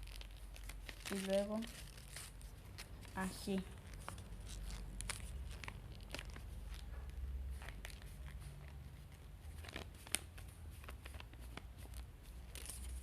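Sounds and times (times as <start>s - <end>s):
sharp paper tick: 0.0s - 6.9s, 7.5s - 13.0s
paper rustling and crinkling: 0.0s - 13.0s.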